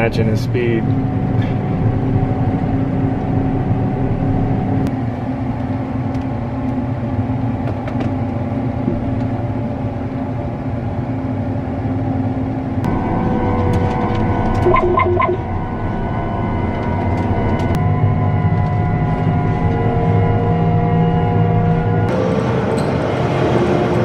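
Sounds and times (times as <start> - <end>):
harvester engine drone: 0.0 - 24.0.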